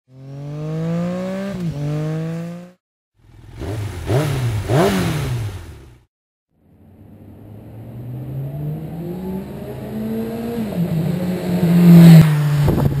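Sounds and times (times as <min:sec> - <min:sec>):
engine accelerating and revving: 0:00.1 - 0:06.1, 0:07.0 - 0:13.0.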